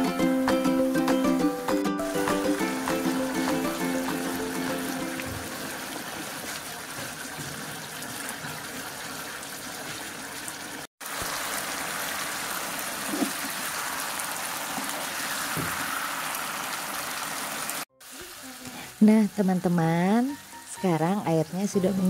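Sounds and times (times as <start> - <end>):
sauce bubbling and sizzling in pan: 2.1 - 22.0.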